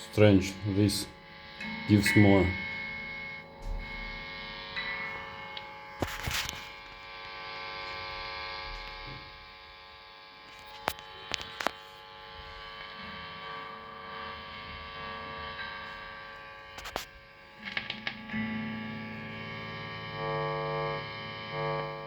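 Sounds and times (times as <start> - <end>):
amplifier mains hum and buzz: 0.0 - 22.0.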